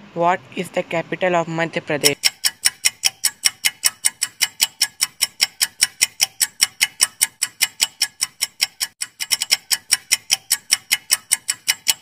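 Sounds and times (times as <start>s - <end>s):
clock-like timer ticks: 2.0s - 12.0s.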